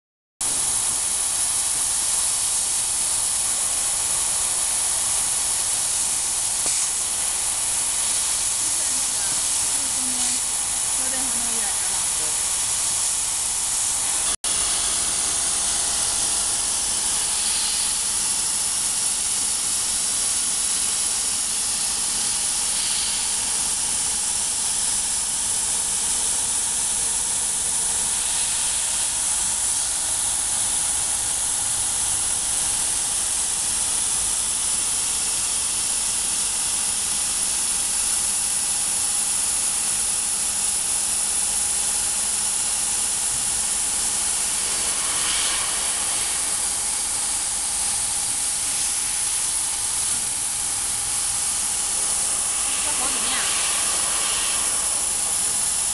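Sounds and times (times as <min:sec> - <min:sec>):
laser cutter air hiss: 0:00.4 - 0:55.9.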